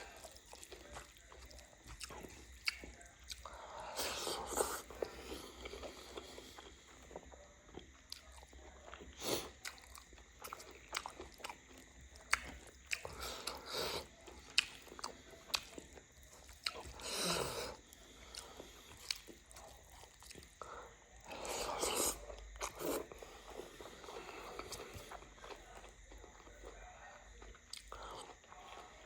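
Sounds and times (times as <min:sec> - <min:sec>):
chewing and crunching: 0:00.0 - 0:29.0.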